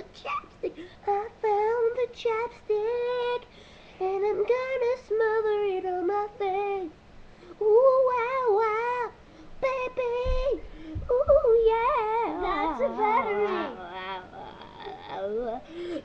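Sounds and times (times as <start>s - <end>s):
boy singing without words: 0.0s - 16.0s.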